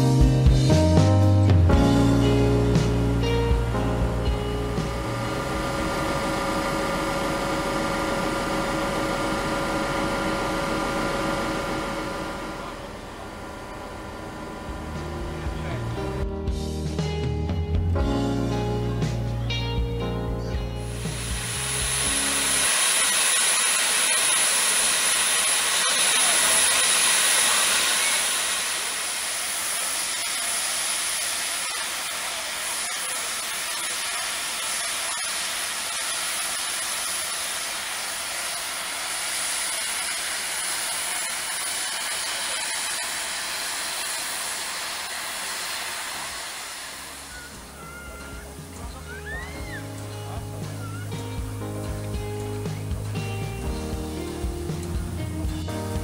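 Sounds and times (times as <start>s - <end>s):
steam locomotive hissing steam: 1.7s - 16.2s, 20.7s - 56.0s.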